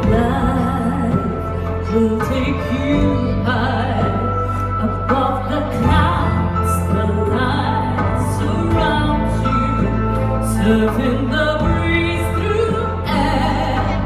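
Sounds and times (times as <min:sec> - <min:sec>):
sustained bass notes: 0:00.0 - 0:14.0.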